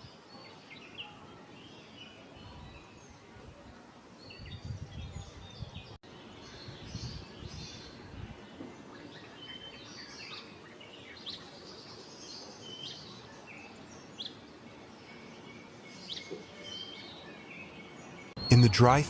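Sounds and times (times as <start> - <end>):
faint outdoor hiss: 0.0 - 19.0.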